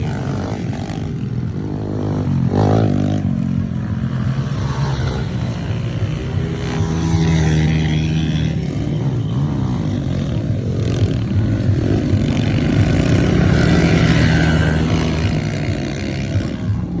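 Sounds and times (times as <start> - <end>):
motocross bike engines revving: 0.0 - 17.0.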